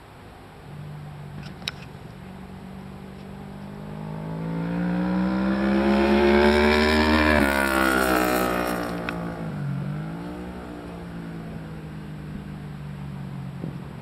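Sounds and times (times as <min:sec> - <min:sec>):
motorcycle engine accelerating: 0:00.7 - 0:14.0.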